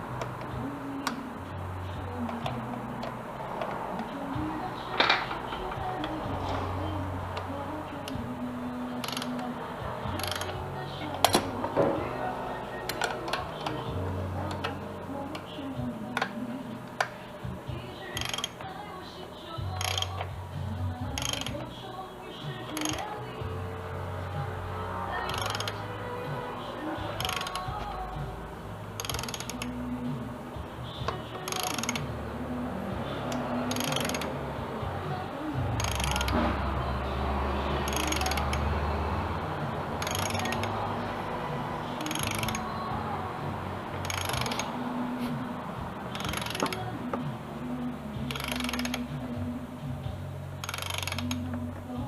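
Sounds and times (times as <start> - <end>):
background music: 0.0 - 52.0
ratchet wrench clicking: 0.1 - 1.3, 2.2 - 17.2, 17.9 - 18.9, 19.6 - 21.8, 22.4 - 23.6, 25.1 - 32.2, 32.9 - 47.4, 48.1 - 49.4, 50.6 - 51.8.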